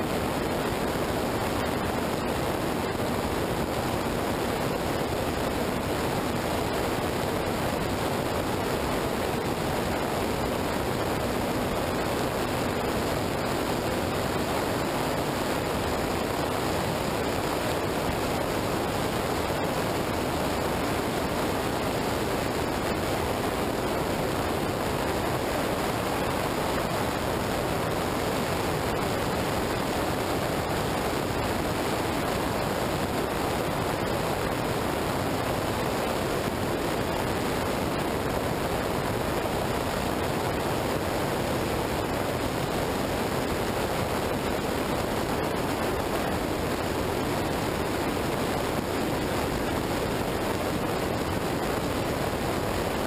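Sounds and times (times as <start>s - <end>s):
rushing wind: 0.0s - 53.0s.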